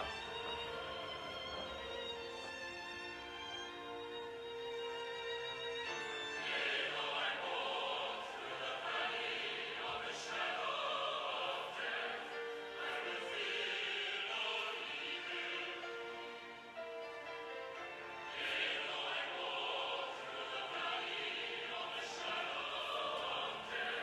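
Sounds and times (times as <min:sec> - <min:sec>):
choir singing sacred music: 0:00.0 - 0:24.0.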